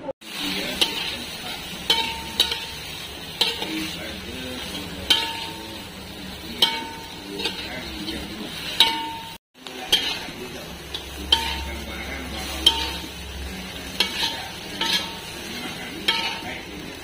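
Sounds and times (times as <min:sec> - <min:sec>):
prawns sizzling in a pan: 0:00.2 - 0:17.0
metal spatula clanking on a pan: 0:00.7 - 0:16.8.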